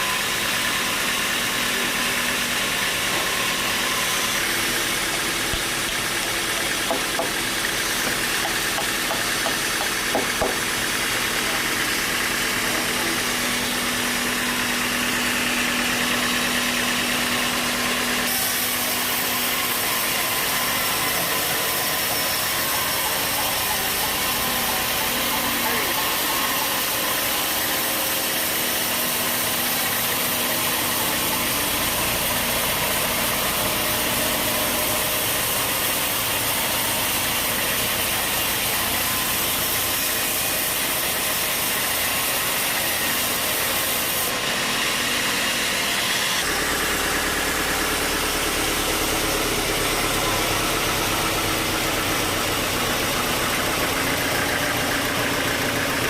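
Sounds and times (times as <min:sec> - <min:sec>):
sawmill machinery hum: 0:00.0 - 0:56.0.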